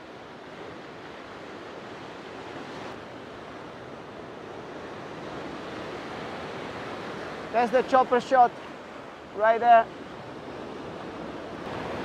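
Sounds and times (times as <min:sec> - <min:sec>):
surf breaking around rocks: 0:00.7 - 0:12.0.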